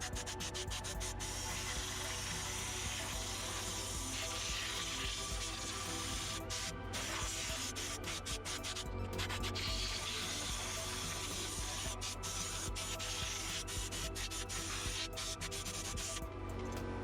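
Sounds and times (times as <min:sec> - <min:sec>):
rubbing and scrubbing: 0:00.0 - 0:16.2
music playing in the room: 0:00.0 - 0:17.0.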